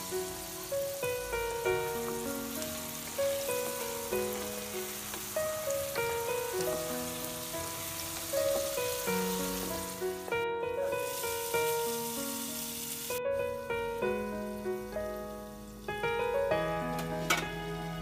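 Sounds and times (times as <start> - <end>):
background music with held notes: 0.0 - 18.0
food sizzling in oil in a wok: 0.0 - 18.0.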